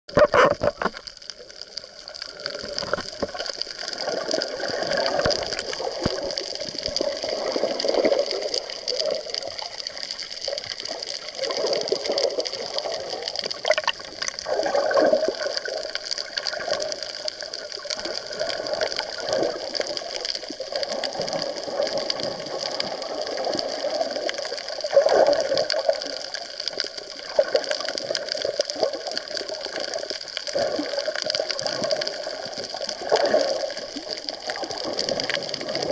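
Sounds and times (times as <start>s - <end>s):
water rushing underwater: 0.1s - 35.9s.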